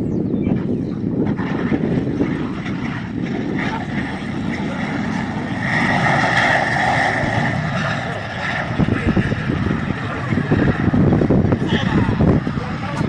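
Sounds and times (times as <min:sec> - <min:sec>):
low rumbling buffets: 0:00.0 - 0:13.0
vehicle engine hum: 0:00.9 - 0:13.0.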